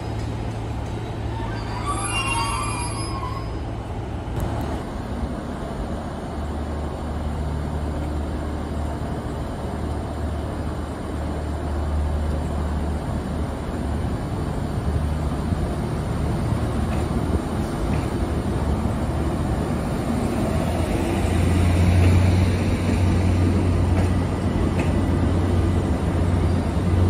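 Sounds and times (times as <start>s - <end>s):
train rumbling by: 0.0s - 27.0s.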